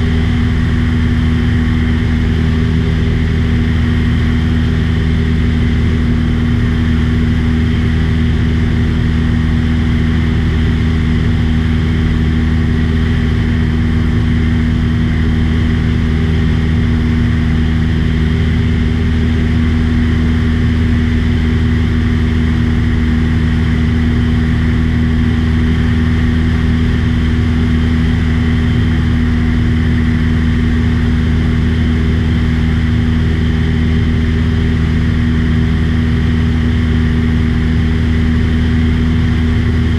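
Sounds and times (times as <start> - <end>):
small plane engine drone: 0.0 - 39.9.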